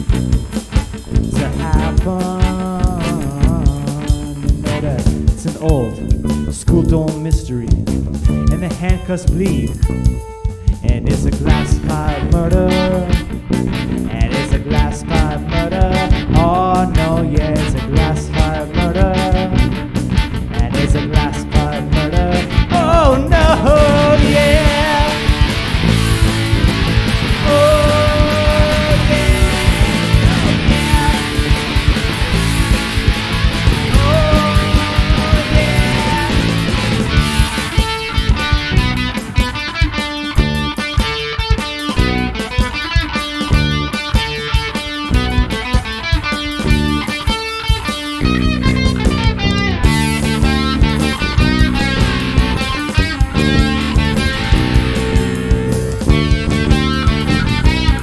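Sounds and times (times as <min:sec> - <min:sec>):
bending electric guitar notes: 0:00.0 - 0:58.0
rock band playing instrumental: 0:00.0 - 0:58.0.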